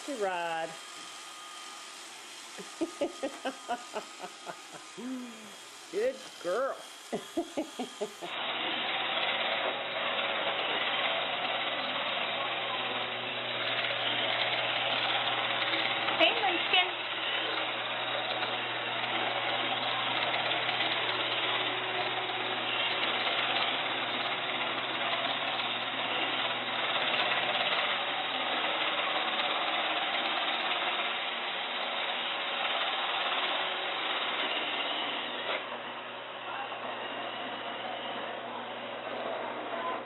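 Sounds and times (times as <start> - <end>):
robot vacuum running: 0.0 - 40.0.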